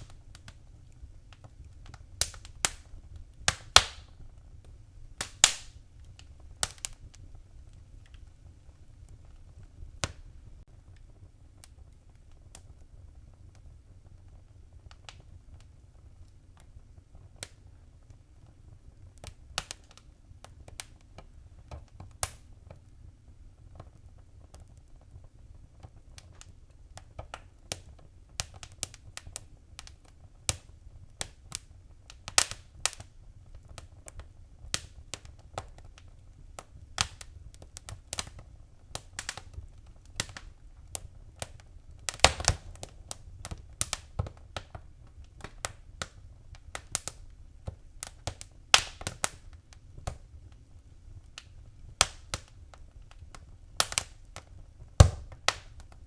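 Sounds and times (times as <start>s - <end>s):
low steady fire rumble: 0.0s - 56.0s
wood fire crackling: 0.0s - 56.0s.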